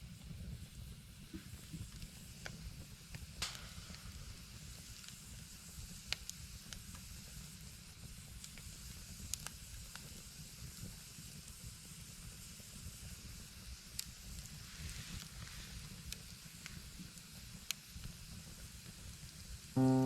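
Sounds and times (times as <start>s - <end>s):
small fire crackling: 0.0s - 20.0s.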